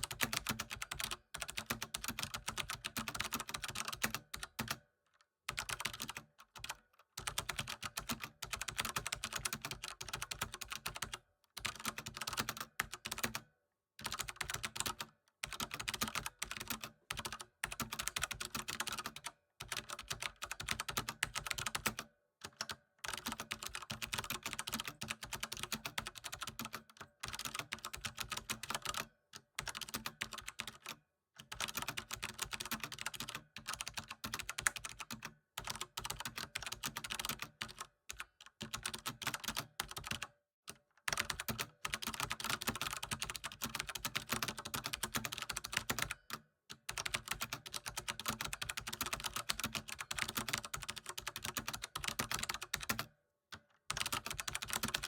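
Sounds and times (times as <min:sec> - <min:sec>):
fast typing on a keyboard: 0:00.0 - 0:04.8, 0:05.5 - 0:53.2, 0:53.9 - 0:55.0.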